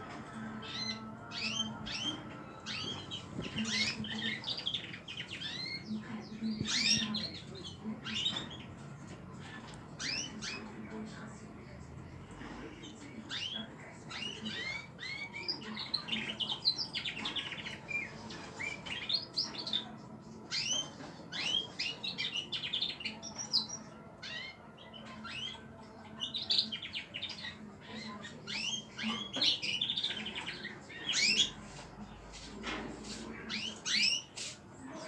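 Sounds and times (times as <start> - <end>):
cage birds chirping: 0.0 - 35.0.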